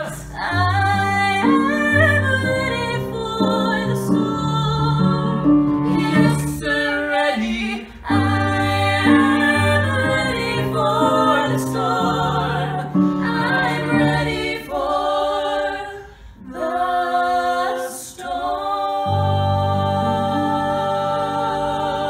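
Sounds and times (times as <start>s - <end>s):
voices singing in harmony: 0.0s - 22.0s.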